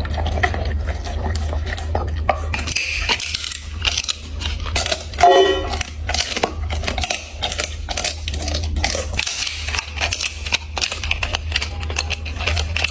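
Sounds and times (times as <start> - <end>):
dog crunching food: 0.0 - 12.9.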